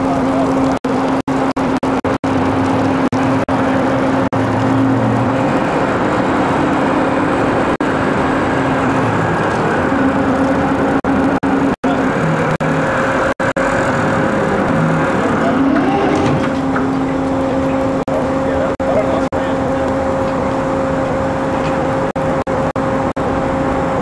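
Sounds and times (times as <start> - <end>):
boat engine running: 0.0 - 24.0
broad rushing noise: 0.0 - 24.0.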